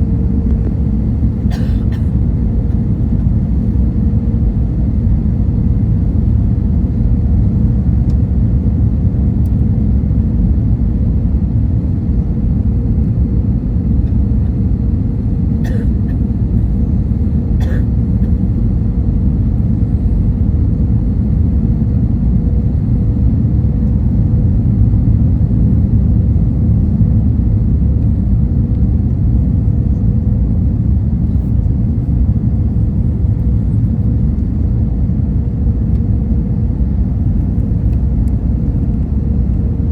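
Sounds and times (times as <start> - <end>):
airliner rumble: 0.0 - 39.9.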